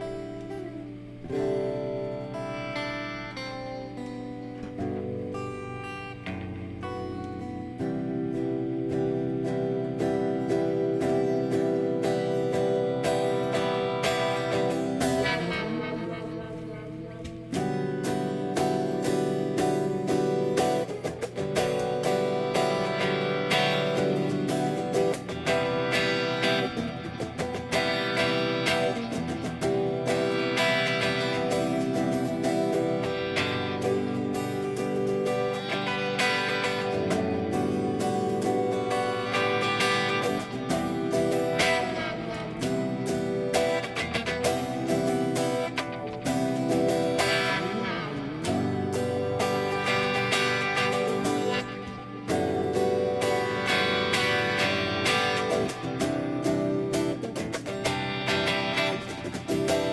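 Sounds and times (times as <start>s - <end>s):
guitar plucked and strummed: 0.0s - 59.9s.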